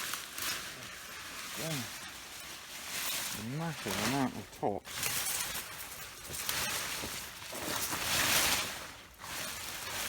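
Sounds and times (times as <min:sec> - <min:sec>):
vines and soil rustling: 0:00.0 - 0:10.0.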